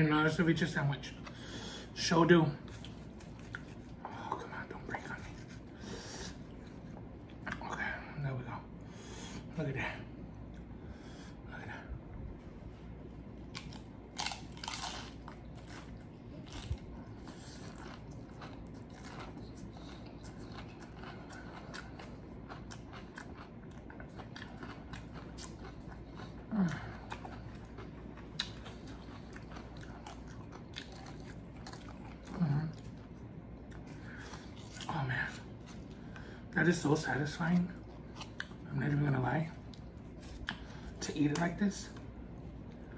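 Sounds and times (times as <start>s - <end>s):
crunching and chewing chips: 0.3s - 7.8s, 13.4s - 42.9s.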